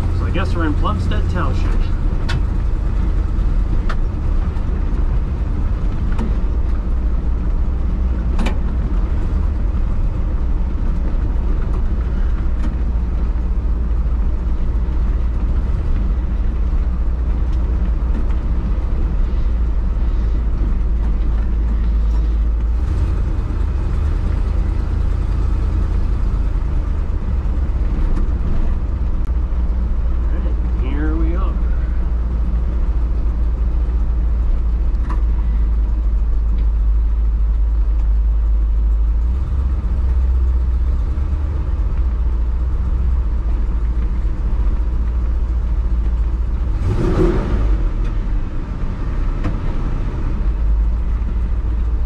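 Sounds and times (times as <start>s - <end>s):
engine drone inside a truck: 0.0s - 52.0s
road noise: 0.0s - 52.0s.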